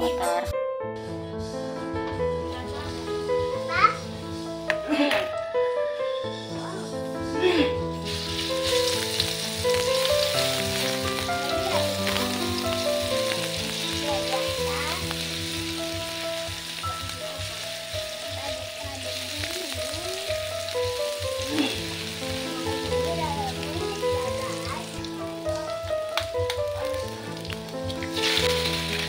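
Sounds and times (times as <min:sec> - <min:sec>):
background music with held notes: 0:00.0 - 0:29.0
food sizzling in hot oil: 0:01.4 - 0:29.0.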